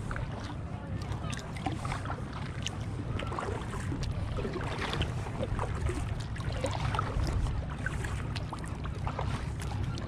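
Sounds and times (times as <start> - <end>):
paddle splashing in water: 0.0 - 10.0.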